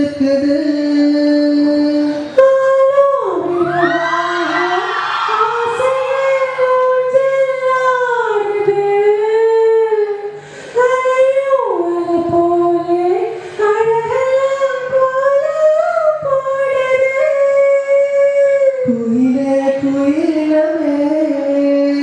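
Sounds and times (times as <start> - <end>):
person singing into microphone: 0.0 - 22.0.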